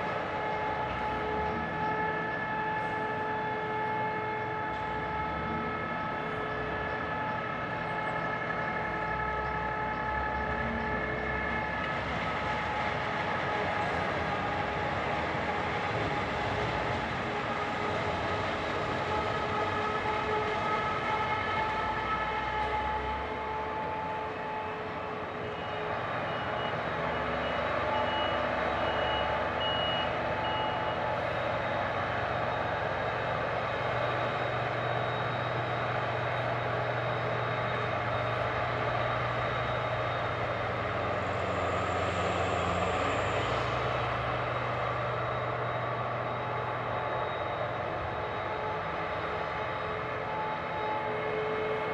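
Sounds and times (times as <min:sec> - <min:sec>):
high-pitched machine whine: 0:00.0 - 0:51.9.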